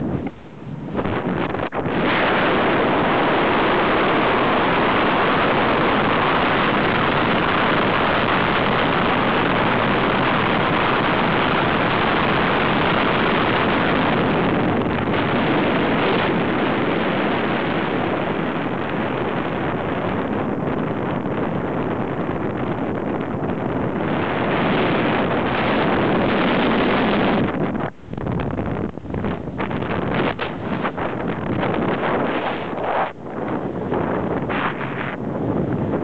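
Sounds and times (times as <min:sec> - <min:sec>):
wind rushing across microphone: 0:00.0 - 0:36.0.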